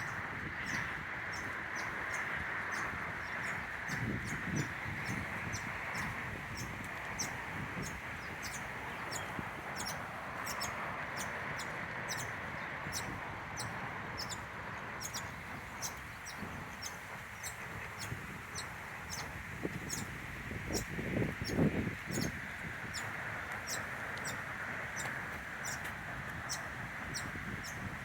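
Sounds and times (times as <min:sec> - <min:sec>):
bird chirping: 0:00.0 - 0:20.1, 0:20.7 - 0:23.1, 0:25.0 - 0:27.9.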